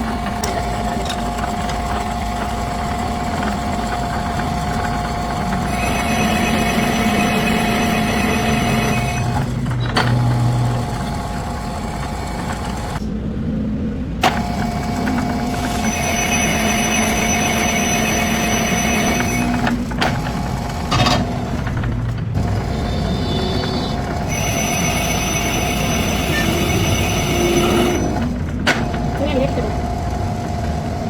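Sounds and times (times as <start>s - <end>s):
machinery whining and squealing: 0.0s - 13.3s, 14.1s - 31.0s
low machinery hum: 0.0s - 31.0s.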